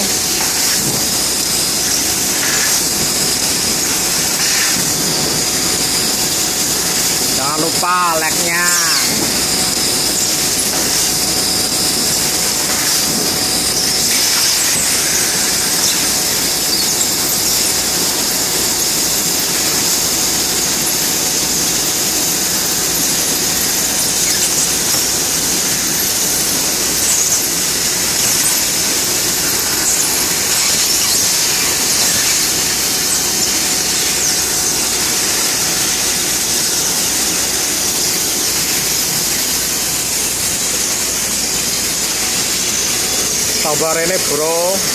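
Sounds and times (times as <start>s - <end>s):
laser cutting machine hissing: 0.0s - 44.9s.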